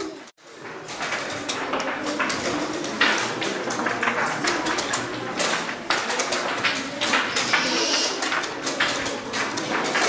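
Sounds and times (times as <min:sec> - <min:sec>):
chess pieces and clocks clicking: 0:00.0 - 0:10.0
low steady hubbub: 0:00.0 - 0:10.0.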